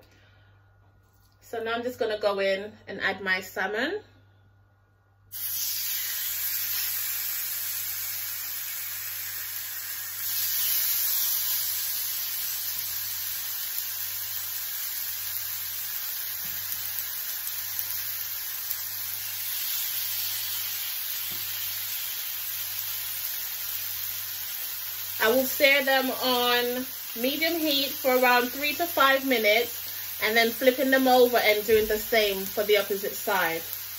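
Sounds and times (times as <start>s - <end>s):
fish sizzling in a grill pan: 5.3s - 33.9s.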